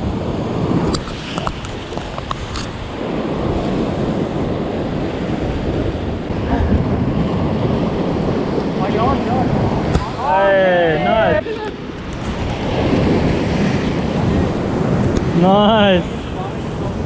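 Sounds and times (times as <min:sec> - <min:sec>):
surf washing against rocks: 0:00.0 - 0:17.0
wind buffeting microphone: 0:00.0 - 0:17.0.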